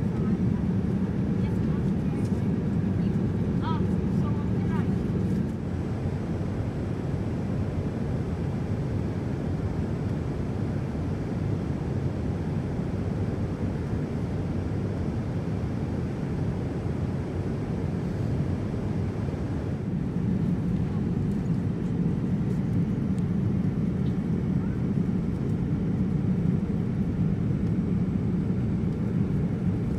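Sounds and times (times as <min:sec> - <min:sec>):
airliner cabin drone: 0:00.0 - 0:29.9.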